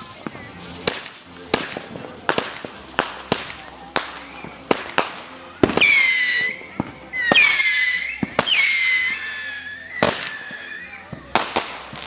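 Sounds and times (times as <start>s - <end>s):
fireworks popping and cracking: 0.0s - 12.0s
firework whistles: 0.8s - 12.0s.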